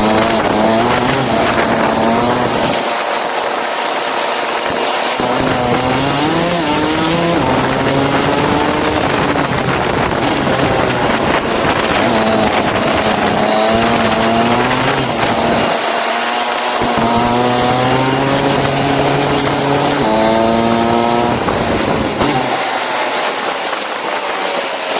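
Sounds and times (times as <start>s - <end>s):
go-kart engine running: 0.0s - 24.9s.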